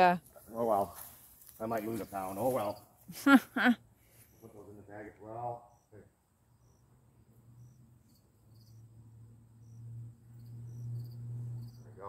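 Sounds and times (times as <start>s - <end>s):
crickets chirping: 0.4s - 12.0s.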